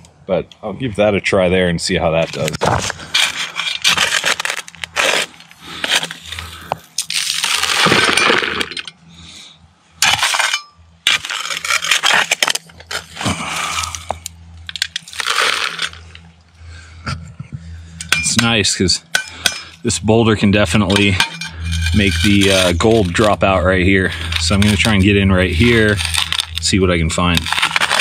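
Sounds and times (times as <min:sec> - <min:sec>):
gravel scraping: 0:01.9 - 0:09.4, 0:10.0 - 0:16.3, 0:18.3 - 0:28.0.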